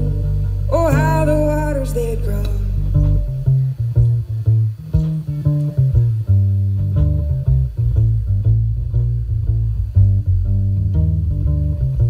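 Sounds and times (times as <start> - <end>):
plucked bass line: 0.0 - 12.0
plucked string notes: 0.0 - 12.0.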